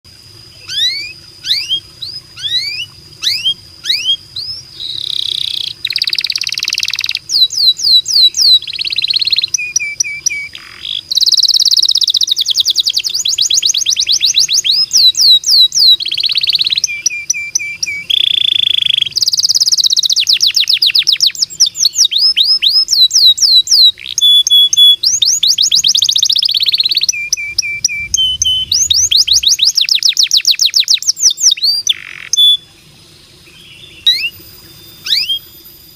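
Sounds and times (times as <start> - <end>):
canary singing trills: 0.2 - 35.9.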